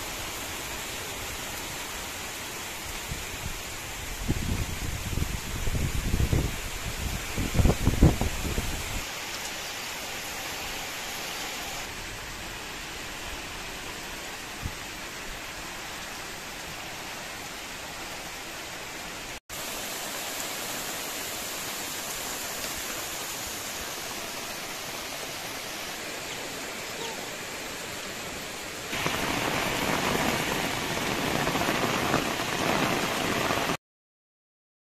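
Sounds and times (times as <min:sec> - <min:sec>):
steady rain falling: 0:00.0 - 0:33.8.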